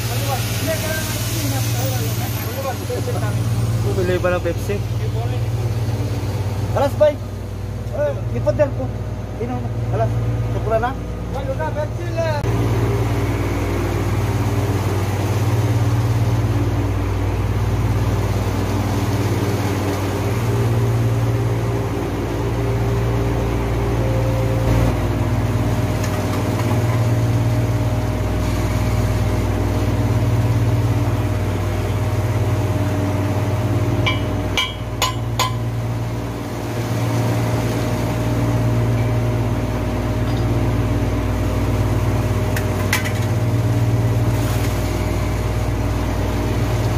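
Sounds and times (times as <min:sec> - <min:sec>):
chiller plant machinery hum: 0:00.0 - 0:46.9.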